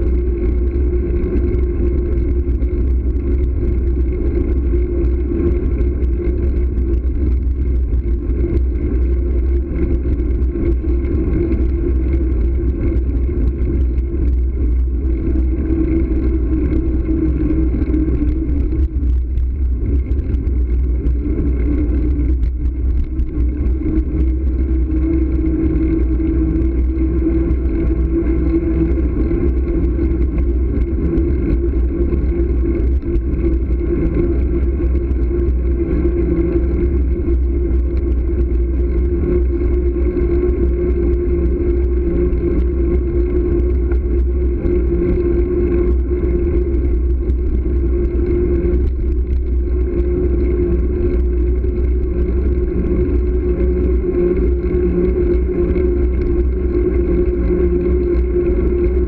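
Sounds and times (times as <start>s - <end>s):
steady droning hum: 0.0s - 59.0s
wind rumble on microphone: 0.0s - 59.0s.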